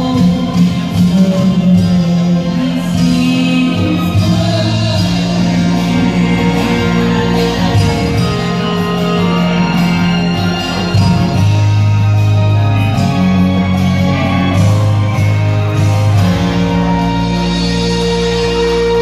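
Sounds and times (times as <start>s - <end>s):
bass line: 0.0s - 19.0s
drums: 0.0s - 19.0s
guitar: 0.0s - 19.0s
keyboard chords: 0.0s - 19.0s.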